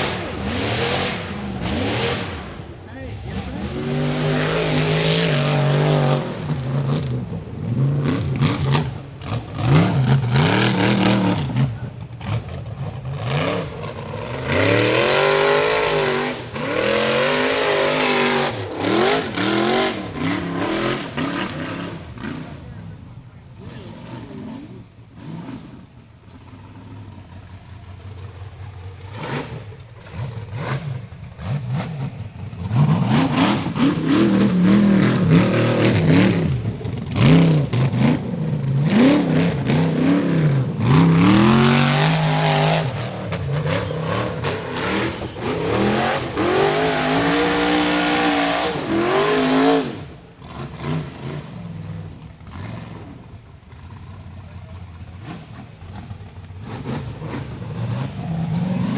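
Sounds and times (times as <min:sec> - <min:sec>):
buggy engine revving: 0:00.0 - 0:58.9.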